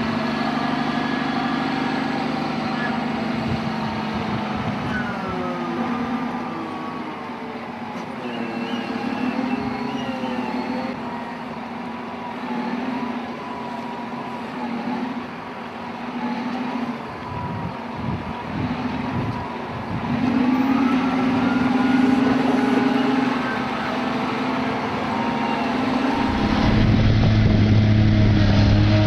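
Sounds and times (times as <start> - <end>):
heavy machine engine revving: 0.0 - 7.0, 7.8 - 29.0.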